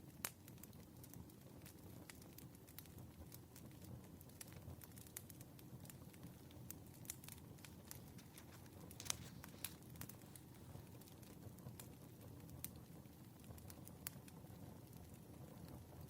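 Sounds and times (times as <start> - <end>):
wood fire crackling: 0.0 - 16.0
fire pops and snaps: 0.1 - 16.0.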